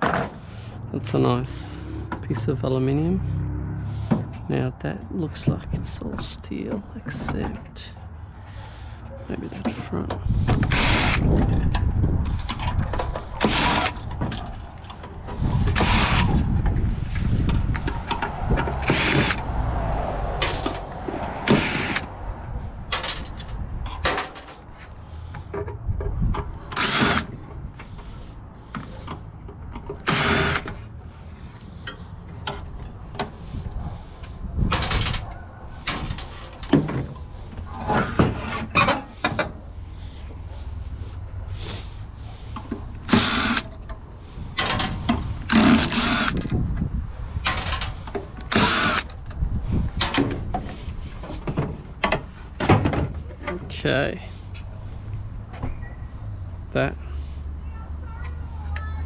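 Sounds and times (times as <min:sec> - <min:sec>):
rumbling scraping and handling: 0:00.0 - 0:57.4.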